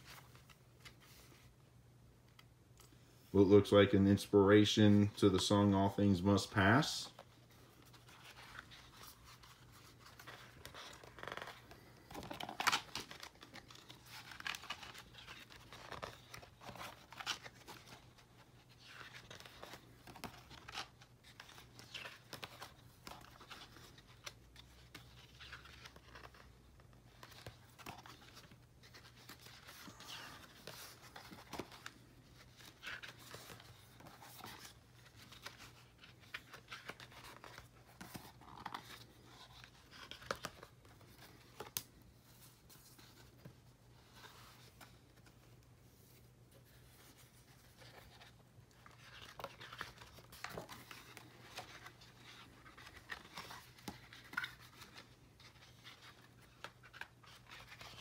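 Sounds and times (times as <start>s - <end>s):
pages turning: 3.7s - 58.0s.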